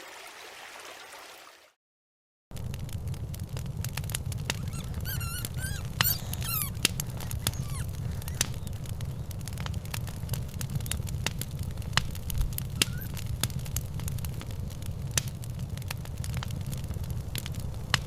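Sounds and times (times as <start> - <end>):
low rumble: 2.5 - 18.0
wood fire crackling and popping: 2.5 - 18.0.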